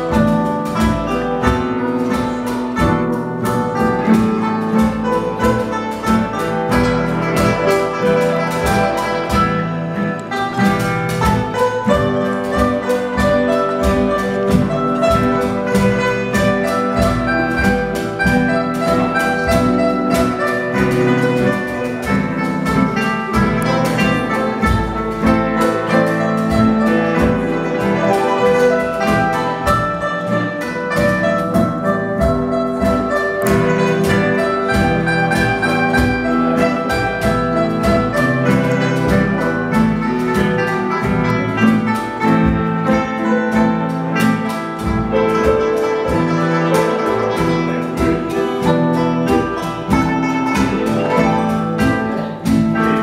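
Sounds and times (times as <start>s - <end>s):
acoustic guitar: 0.0s - 53.0s
electric guitar: 0.0s - 53.0s
plucked zither: 0.0s - 53.0s.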